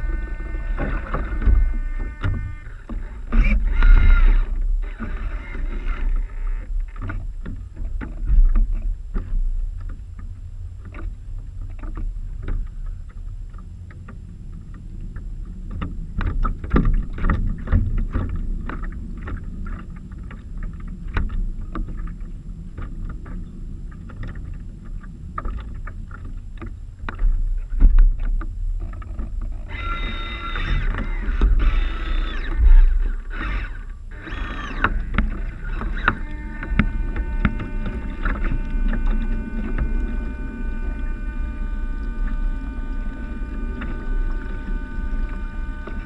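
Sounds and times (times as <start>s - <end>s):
steady low rumble: 0.0s - 46.0s
water splashing against hulls: 0.0s - 46.0s.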